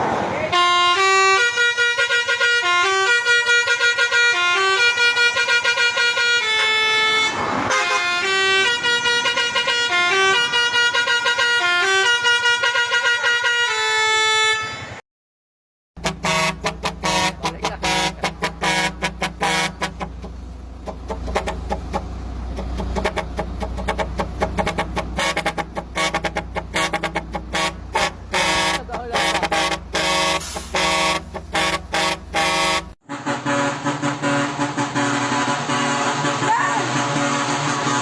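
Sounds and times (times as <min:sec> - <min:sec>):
vehicle horn tooting: 0:00.5 - 0:15.0, 0:16.0 - 0:38.0.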